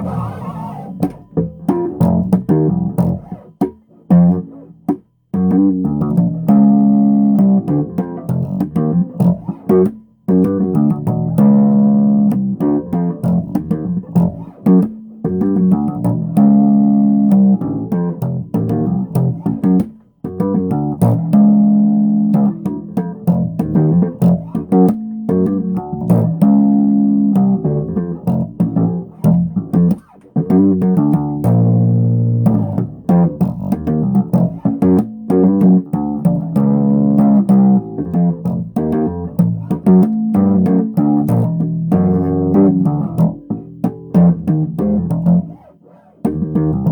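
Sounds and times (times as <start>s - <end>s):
bass guitar plucked notes: 0.0s - 46.9s.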